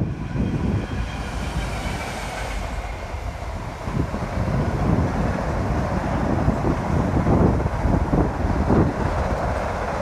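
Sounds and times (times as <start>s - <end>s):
diesel locomotive engine running: 0.0s - 10.0s.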